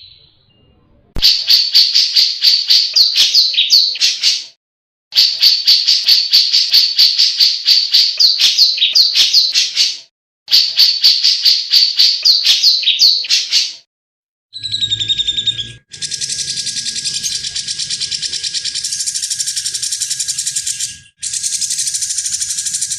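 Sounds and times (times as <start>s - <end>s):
bulbul fast repeated chirping: 1.2s - 4.6s, 5.2s - 13.8s, 14.6s - 22.9s.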